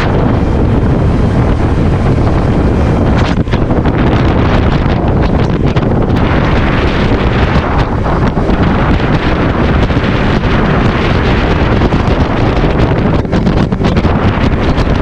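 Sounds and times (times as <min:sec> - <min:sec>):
outboard motor drone: 0:00.0 - 0:15.0
wind buffeting microphone: 0:00.0 - 0:15.0.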